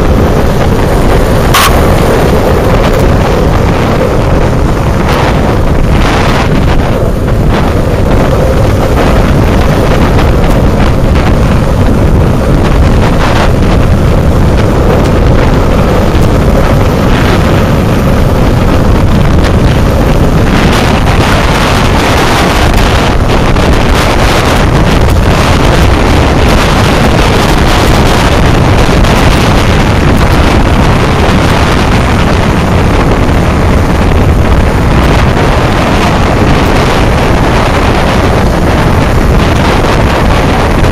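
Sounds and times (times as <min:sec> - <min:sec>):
skateboard wheels rolling on tarmac: 0:00.0 - 0:40.9
wind rushing over microphone: 0:00.0 - 0:40.9.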